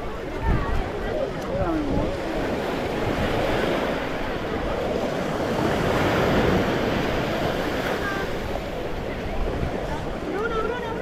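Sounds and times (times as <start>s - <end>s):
waves washing onto beach: 0.0s - 11.0s
wind buffeting microphone: 0.0s - 11.0s.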